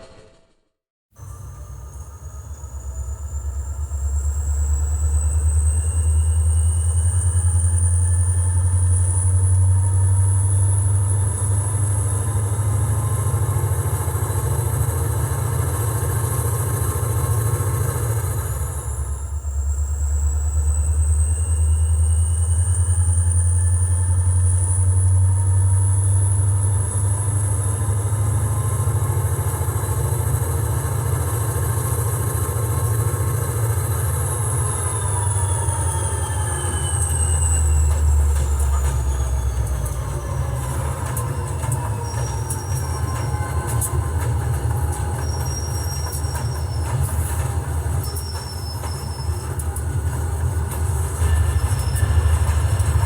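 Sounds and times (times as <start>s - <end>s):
high squealing tones: 1.2s - 53.0s
short high squeals: 1.2s - 53.0s
train rumbling: 1.2s - 53.0s.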